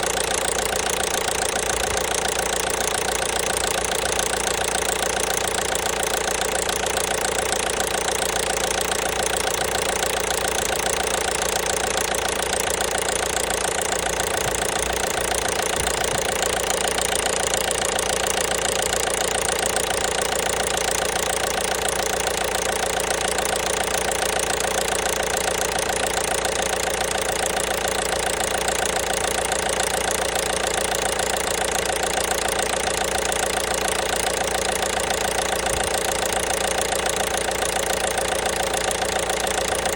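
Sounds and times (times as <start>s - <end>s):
diesel engine idling with knocking: 0.0s - 39.9s.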